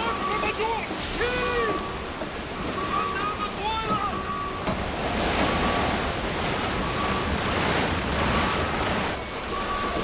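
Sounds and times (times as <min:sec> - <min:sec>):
water gushing through a hull: 0:00.0 - 0:10.0.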